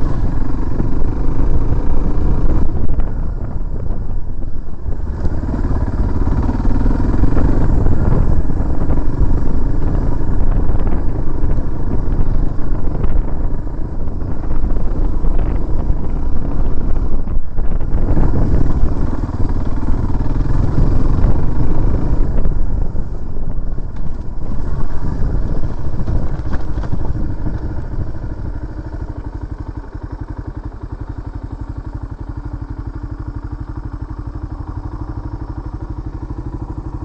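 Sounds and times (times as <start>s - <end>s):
motorcycle engine idling: 0.0s - 37.0s
motorcycle engine revving: 0.0s - 37.0s.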